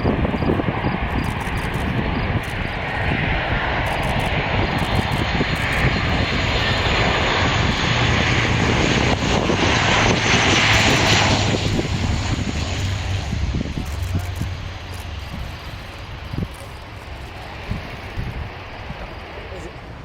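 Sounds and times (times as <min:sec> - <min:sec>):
airplane flying past: 0:00.0 - 0:20.0.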